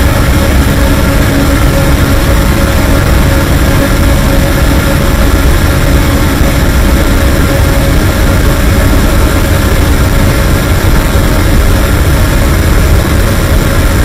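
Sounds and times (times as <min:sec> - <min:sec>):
harsh distorted noise music: 0:00.0 - 0:14.0.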